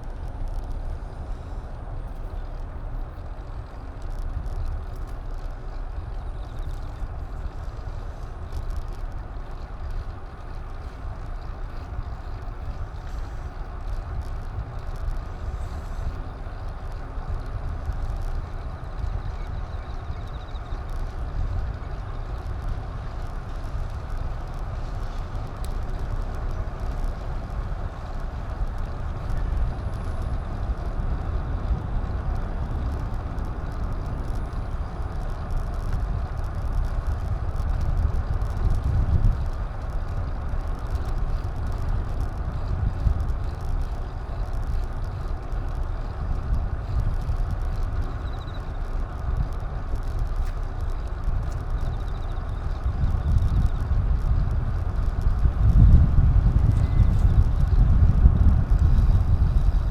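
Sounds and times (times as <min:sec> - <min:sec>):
road noise: 0:00.0 - 0:59.9
wind rumble: 0:00.0 - 0:59.9.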